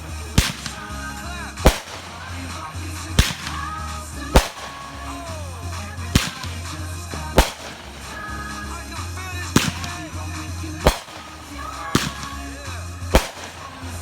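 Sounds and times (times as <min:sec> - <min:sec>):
background music: 0:00.0 - 0:14.0
fireworks bangs: 0:00.0 - 0:14.0.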